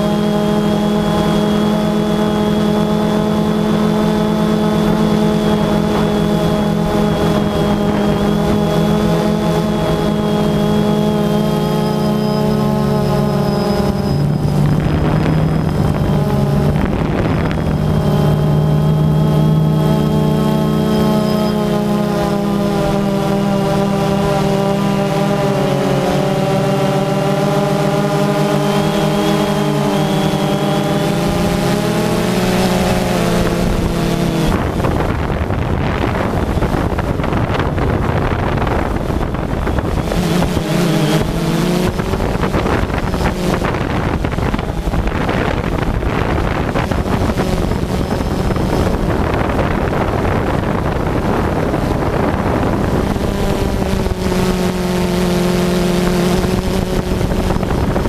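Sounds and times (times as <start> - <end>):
drone propellers whining: 0.0 - 58.0
wind buffeting microphone: 0.0 - 58.0.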